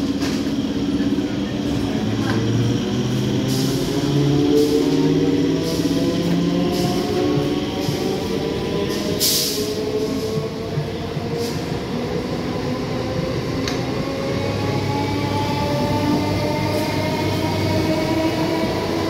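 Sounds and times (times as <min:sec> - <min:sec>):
train rail rumble: 0:00.0 - 0:19.0.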